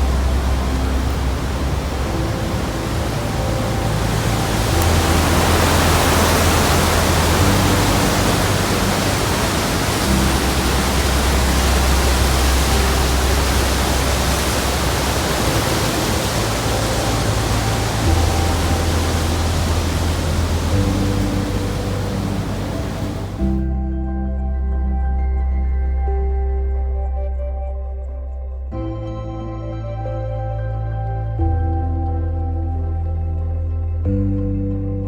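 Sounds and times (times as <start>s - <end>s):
low sustained musical notes: 0.0s - 35.0s.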